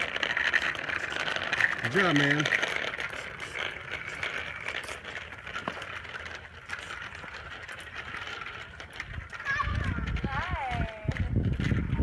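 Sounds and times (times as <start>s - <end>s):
small wheels rolling on asphalt: 0.0s - 12.0s.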